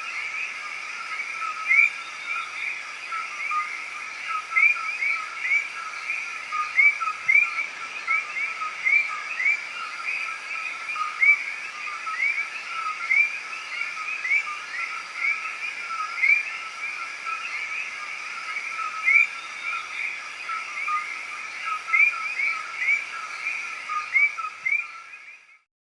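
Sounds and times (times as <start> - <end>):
faint background hiss: 0.0 - 25.6.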